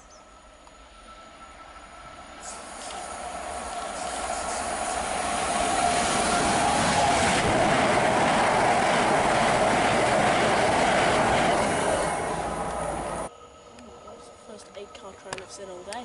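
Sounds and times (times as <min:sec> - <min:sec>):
train wheels rumbling on rails: 0:00.3 - 0:16.0.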